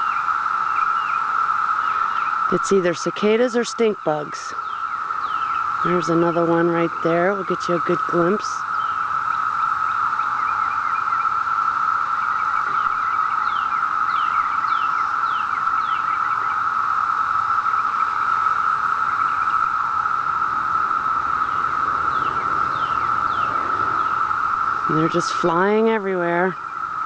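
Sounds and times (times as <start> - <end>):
birds chirping: 0.0 - 27.0
cicadas droning: 0.0 - 27.0.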